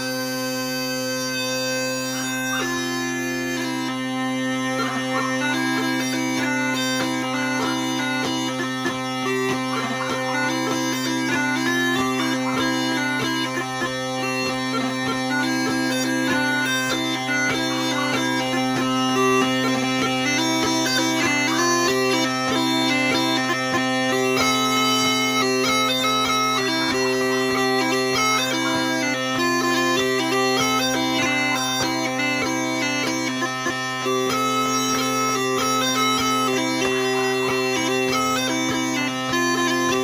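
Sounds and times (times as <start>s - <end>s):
bagpipe chanter melody: 0.0s - 40.0s
bagpipe drones: 0.0s - 40.0s.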